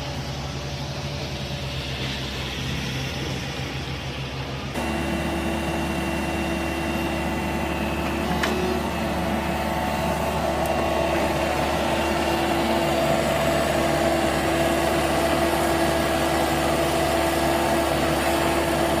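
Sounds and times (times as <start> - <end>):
construction machinery engine hum: 0.0 - 19.0.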